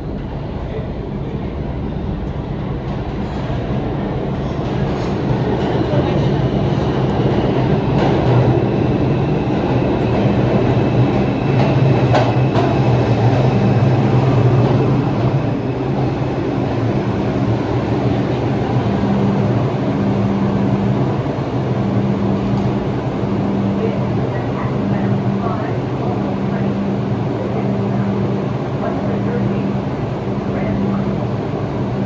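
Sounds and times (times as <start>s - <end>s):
subway train rumble: 0.0s - 32.0s.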